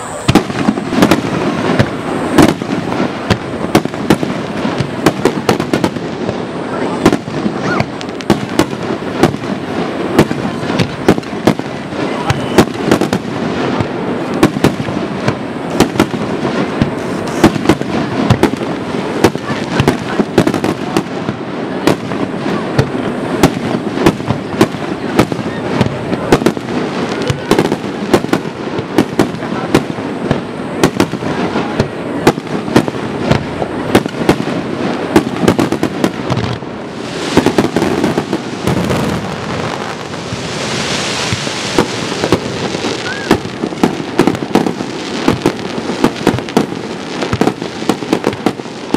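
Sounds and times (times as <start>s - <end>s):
aerial fireworks bursting: 0.0s - 48.9s
hissing crackle: 0.0s - 48.9s.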